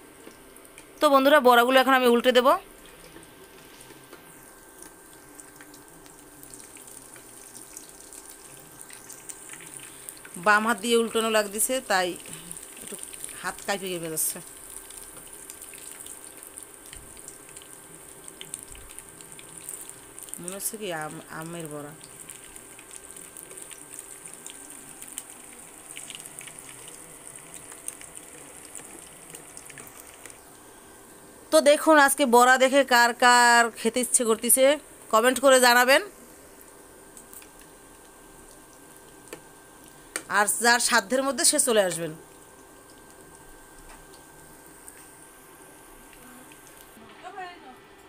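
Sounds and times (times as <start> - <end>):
hot oil sizzling: 0.0 - 47.4.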